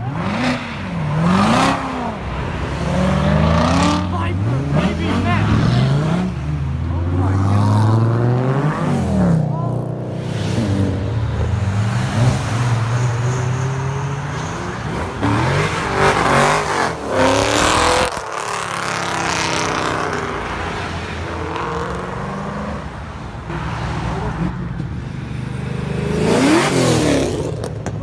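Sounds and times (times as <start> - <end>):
car accelerating hard: 0.0 - 24.6, 25.9 - 28.0
car engines revving: 0.0 - 28.0.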